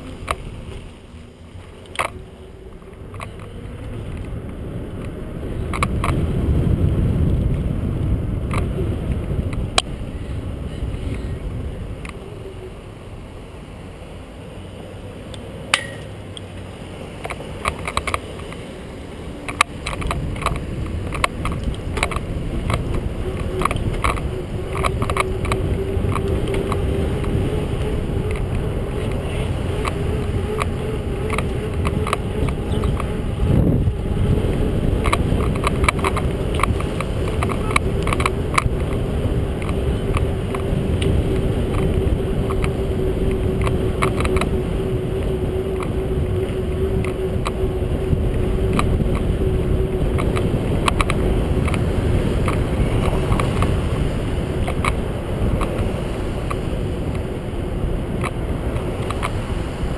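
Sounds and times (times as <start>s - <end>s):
bike clicks and rattles: 0.0s - 12.6s, 15.3s - 59.9s
wind and road rumble: 0.0s - 59.9s.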